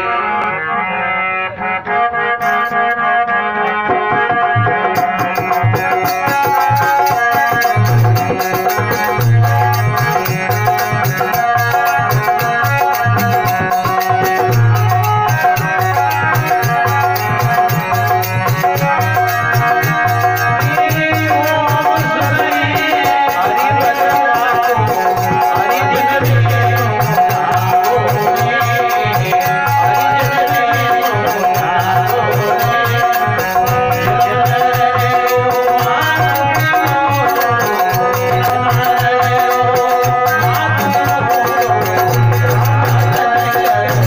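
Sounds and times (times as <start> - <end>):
harmonium chords and melody: 0.0 - 44.0
hand drum beating: 3.8 - 44.0.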